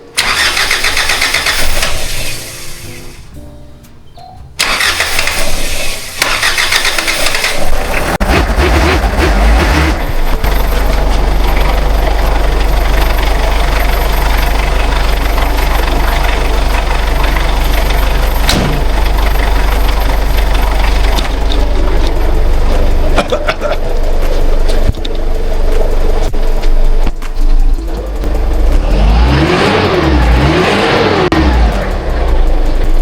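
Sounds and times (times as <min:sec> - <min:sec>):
diesel engine cranking and idling: 0:00.0 - 0:03.3, 0:04.6 - 0:33.0.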